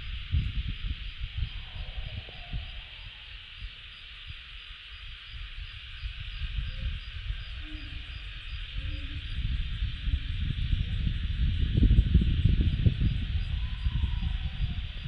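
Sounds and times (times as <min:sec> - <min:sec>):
cicadas droning: 0:00.0 - 0:15.0
low rumbling noise: 0:00.0 - 0:15.0.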